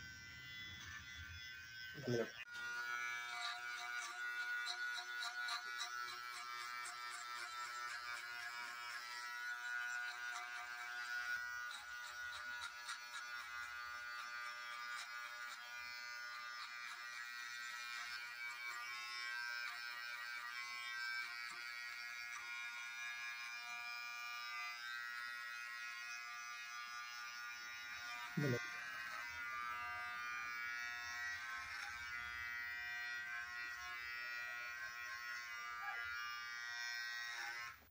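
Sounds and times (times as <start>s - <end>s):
electric hair clipper buzzing: 0.0s - 37.9s.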